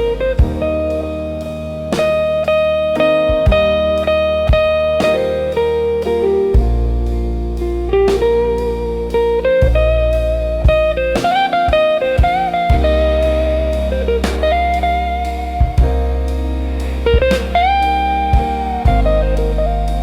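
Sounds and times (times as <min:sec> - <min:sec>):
slow blues instrumental: 0:00.0 - 0:20.0.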